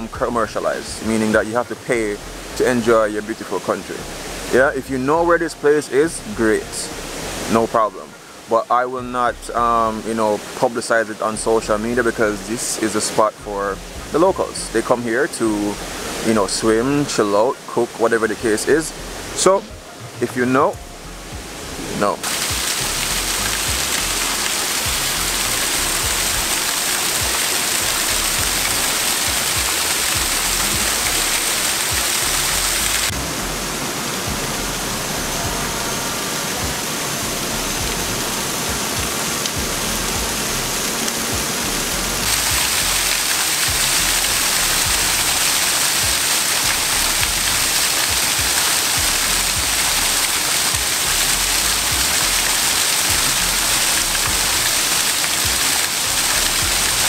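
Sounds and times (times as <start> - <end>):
small waterfall rushing: 0.0 - 57.0.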